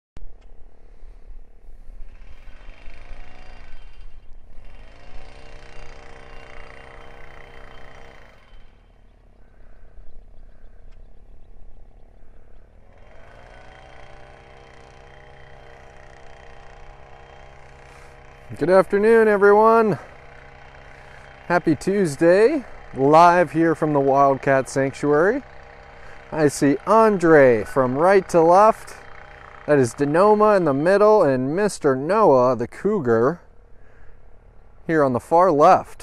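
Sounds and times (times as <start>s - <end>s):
machinery engine revving: 1.8s - 9.6s, 12.3s - 36.0s.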